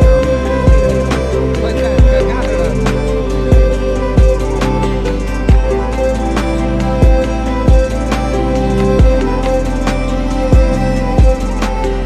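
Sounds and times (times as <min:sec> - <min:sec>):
heavy low beat: 0:00.0 - 0:12.0
music with sustained tones: 0:00.0 - 0:12.0.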